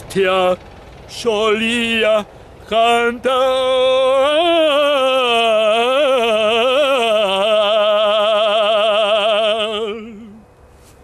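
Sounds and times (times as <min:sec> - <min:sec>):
man singing unaccompanied: 0:00.0 - 0:10.5.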